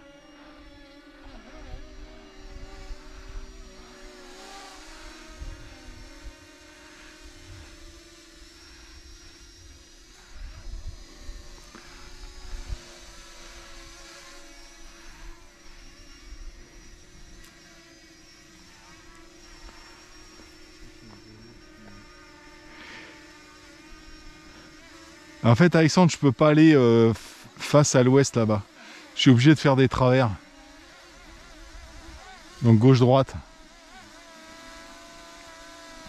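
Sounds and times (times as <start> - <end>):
electric propeller hum: 0.0 - 36.0.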